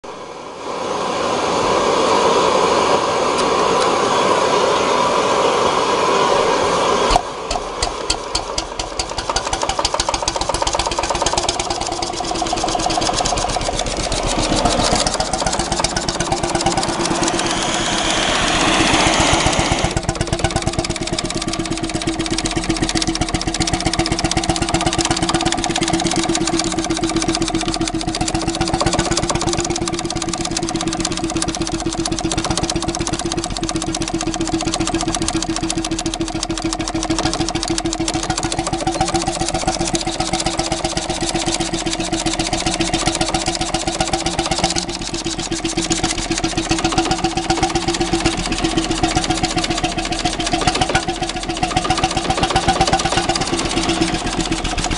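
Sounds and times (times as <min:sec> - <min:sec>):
loud steady rushing noise: 0:00.1 - 0:54.9
stationary engine firing: 0:07.1 - 0:54.9.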